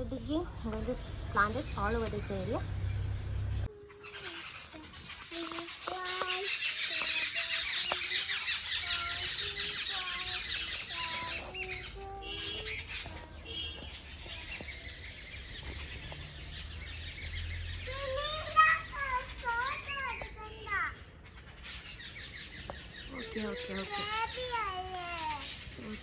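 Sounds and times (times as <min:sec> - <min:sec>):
flock of birds chirping: 0:00.0 - 0:26.0.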